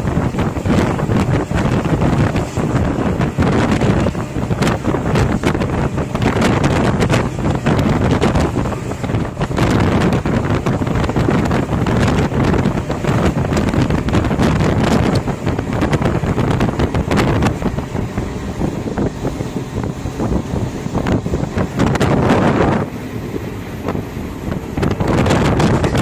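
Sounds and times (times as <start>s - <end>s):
heavy wind buffeting microphone: 0.0s - 26.0s.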